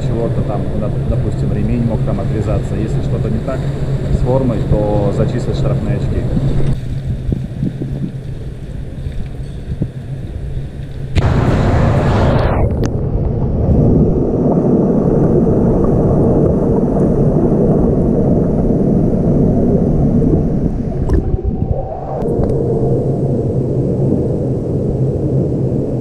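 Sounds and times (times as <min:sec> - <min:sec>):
muffled underwater rumble and gurgle: 0:00.0 - 0:26.0.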